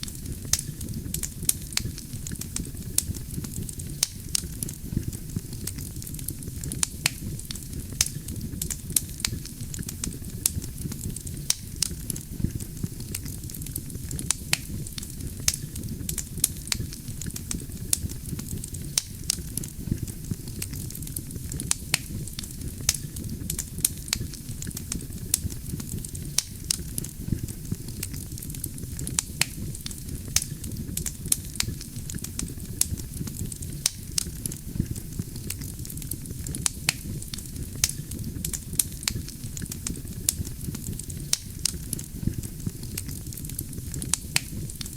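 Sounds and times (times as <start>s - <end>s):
campfire burning and crackling: 0.0s - 44.9s.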